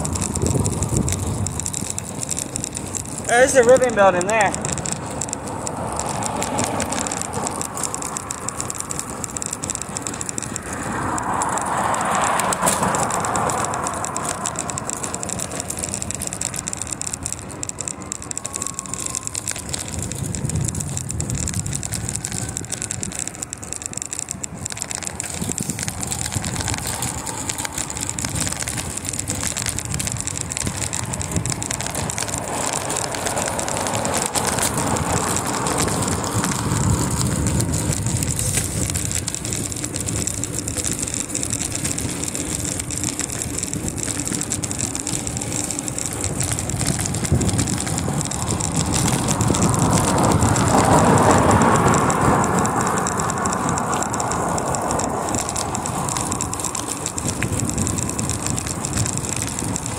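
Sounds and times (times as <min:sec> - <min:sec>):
bicycle road noise: 0:00.0 - 0:59.9
wind noise: 0:00.0 - 0:59.9.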